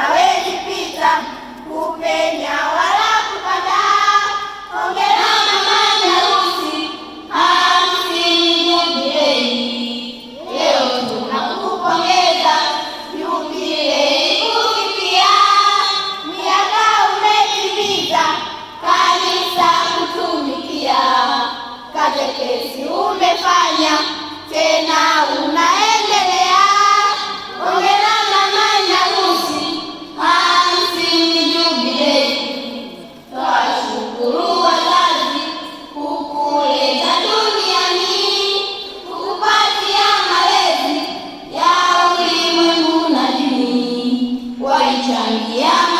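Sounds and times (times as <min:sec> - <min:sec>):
children singing together: 0:00.0 - 0:45.9.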